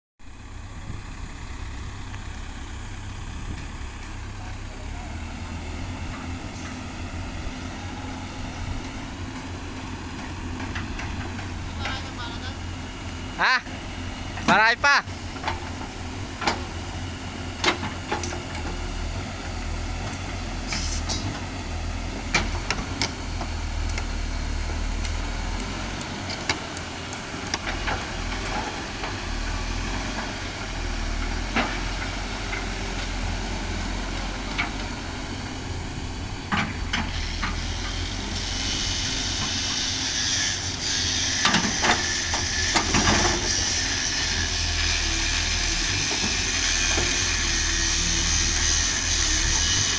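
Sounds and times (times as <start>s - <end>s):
backhoe diesel engine running: 0.2s - 49.9s.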